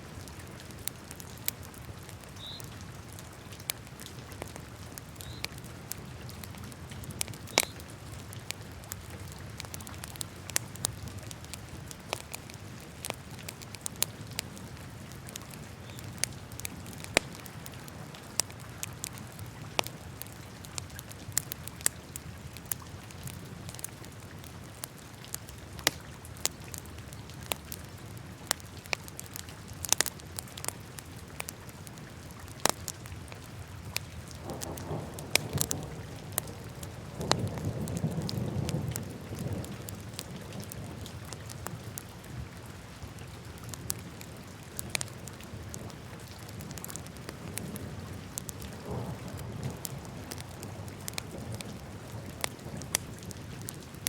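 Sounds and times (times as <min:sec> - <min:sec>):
wood fire crackling: 0:00.1 - 0:54.0
fire popping and snapping: 0:00.2 - 0:54.0.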